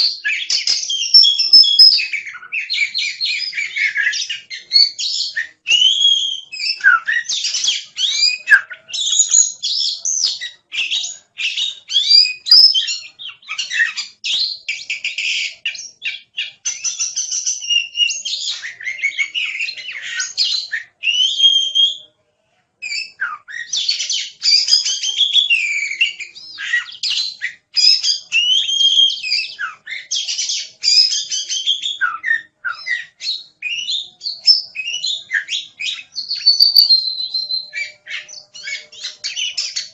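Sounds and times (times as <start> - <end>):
bird singing whistles and trills: 0.0 - 22.1, 22.8 - 39.9.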